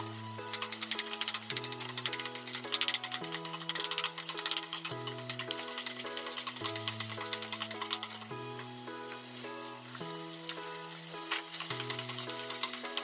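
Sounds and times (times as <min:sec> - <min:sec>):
background music of held notes: 0:00.0 - 0:13.0
egg sizzling in a frying pan: 0:00.0 - 0:13.0.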